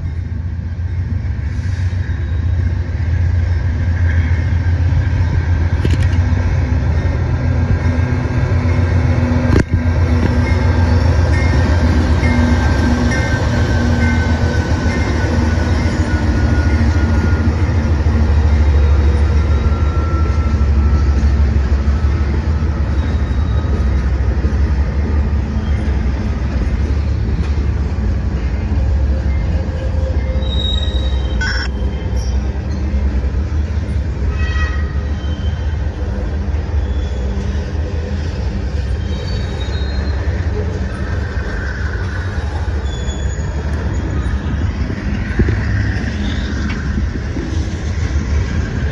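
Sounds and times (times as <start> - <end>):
diesel locomotive rumble: 0.0 - 48.9
squealing train wheels: 0.0 - 48.9.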